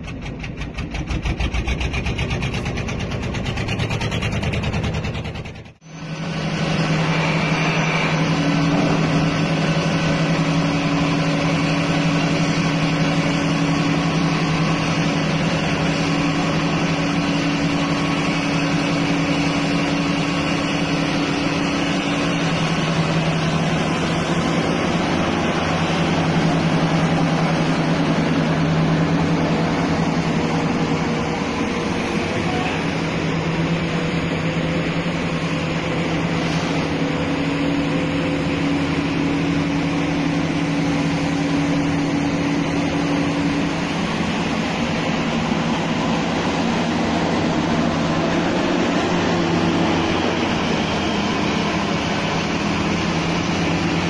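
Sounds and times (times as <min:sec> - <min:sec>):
excavator diesel engine humming: 0:00.0 - 0:54.0.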